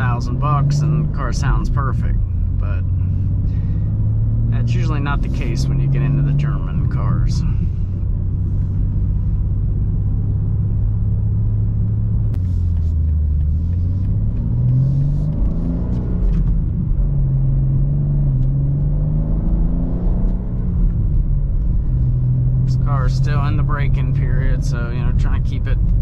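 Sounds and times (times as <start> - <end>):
car engine drone inside cabin: 0.0 - 26.0.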